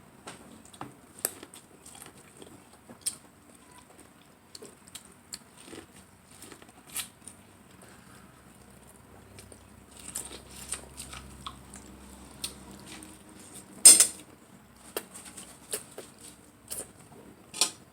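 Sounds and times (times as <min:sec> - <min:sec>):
person chewing corn: 0:00.5 - 0:13.7, 0:14.8 - 0:17.1.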